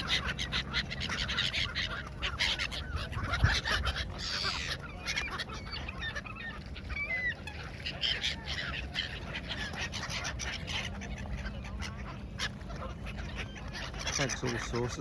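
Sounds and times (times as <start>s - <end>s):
gulls geese and ducks calling: 0.0s - 15.0s
wings fluttering: 0.0s - 15.0s.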